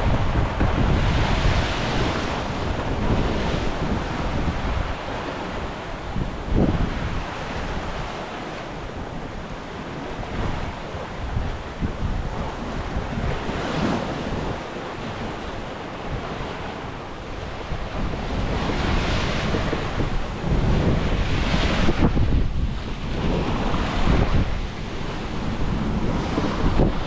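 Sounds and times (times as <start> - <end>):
waves rushing: 0.0 - 27.0
wind buffeting microphone: 0.0 - 27.0.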